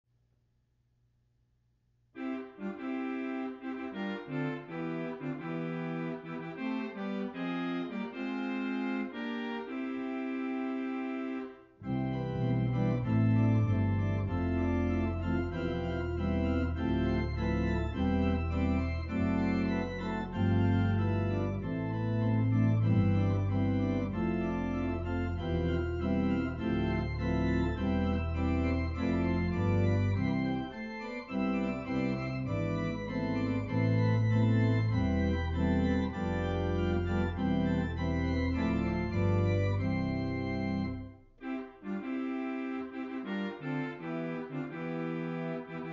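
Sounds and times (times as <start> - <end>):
church organ chords: 2.2 - 45.9
organ pedal bass line: 2.2 - 45.9.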